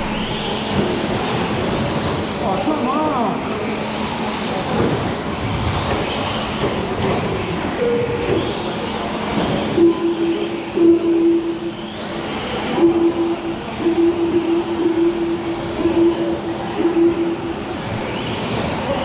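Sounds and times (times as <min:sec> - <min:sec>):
rc truck motors whining: 0:03.4 - 0:19.0.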